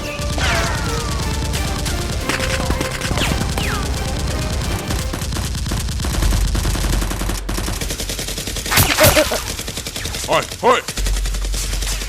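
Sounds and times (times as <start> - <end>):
rapid gunfire: 0.0 - 12.0.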